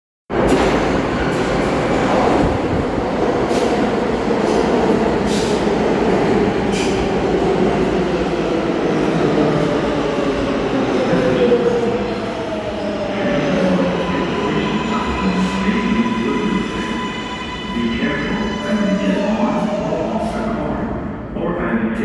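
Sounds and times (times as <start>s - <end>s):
subway train rumbling: 0.3s - 22.0s.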